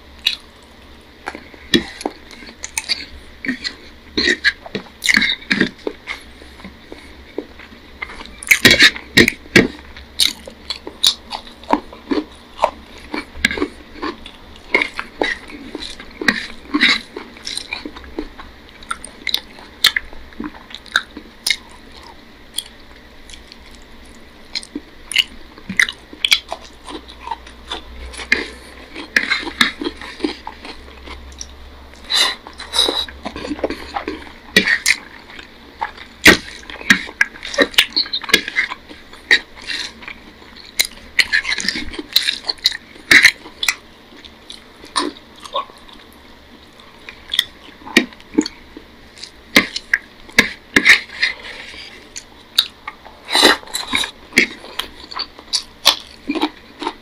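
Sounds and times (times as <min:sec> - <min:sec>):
chewing and lip-smacking: 0:00.2 - 0:57.0
fingers squishing food: 0:00.2 - 0:57.0.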